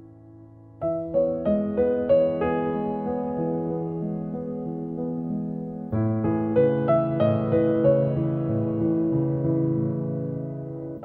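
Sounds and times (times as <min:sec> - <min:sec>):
slow soft keyboard music: 0:00.0 - 0:11.0.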